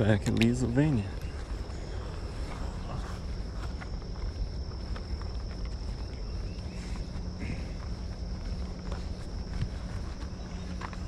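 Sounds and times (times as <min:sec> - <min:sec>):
footsteps on grass and pavement: 0:00.0 - 0:11.0
insects chirring: 0:00.0 - 0:11.0.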